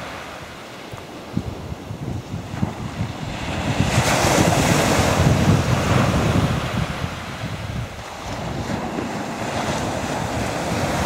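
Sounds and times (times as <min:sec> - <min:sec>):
waves washing onto shingle: 0:00.0 - 0:11.0
wind buffeting microphone: 0:00.0 - 0:11.0.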